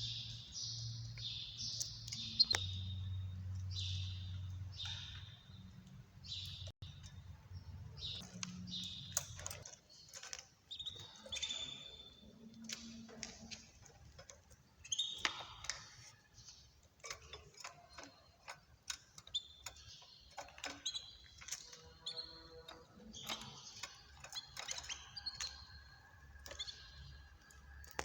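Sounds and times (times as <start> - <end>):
small songbirds chirping: 0.0 - 28.0.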